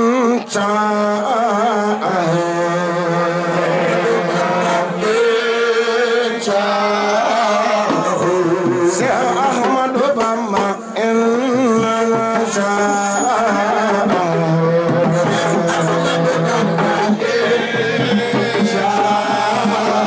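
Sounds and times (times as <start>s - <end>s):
person singing devotional chant: 0.0s - 20.0s.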